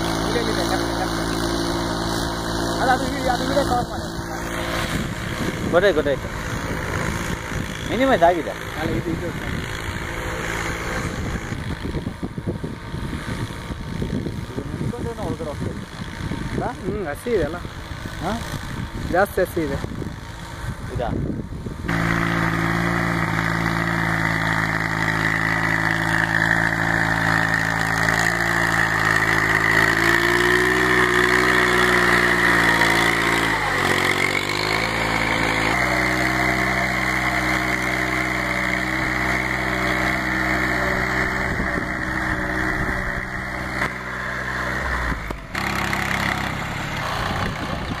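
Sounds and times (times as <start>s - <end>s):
tractor engine under load: 0.0s - 48.0s.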